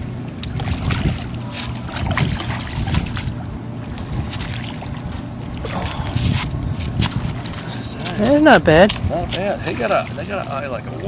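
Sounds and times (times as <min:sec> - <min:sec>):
steady low rumble: 0:00.0 - 0:11.0
wind buffeting microphone: 0:00.6 - 0:04.7, 0:05.3 - 0:10.5.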